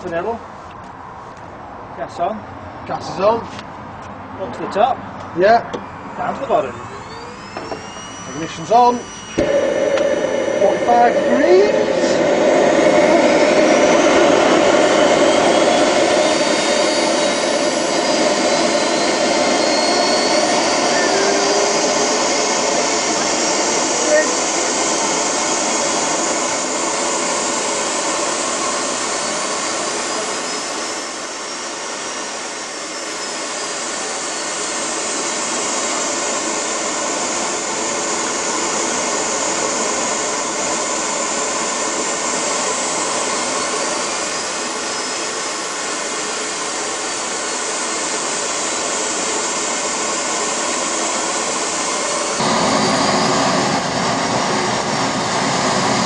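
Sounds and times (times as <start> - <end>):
jet turbine engine whining: 0.0 - 56.0.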